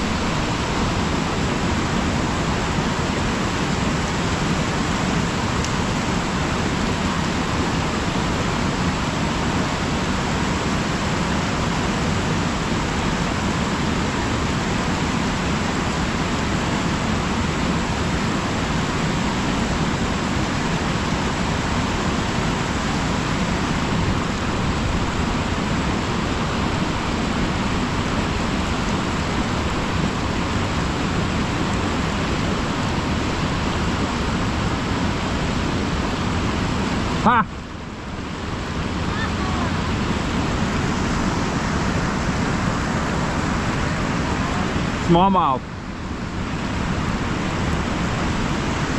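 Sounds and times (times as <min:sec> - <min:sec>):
river rapids rushing: 0:00.0 - 0:48.9.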